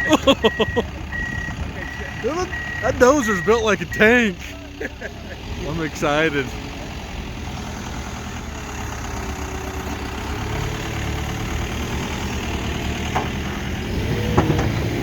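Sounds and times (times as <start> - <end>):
heavy equipment diesel engines running: 0.0 - 15.0.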